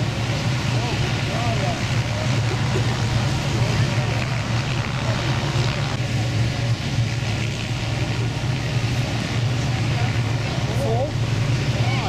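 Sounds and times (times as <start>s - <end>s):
helicopter engine and rotor drone: 0.0s - 12.0s
thin whine: 0.0s - 12.0s.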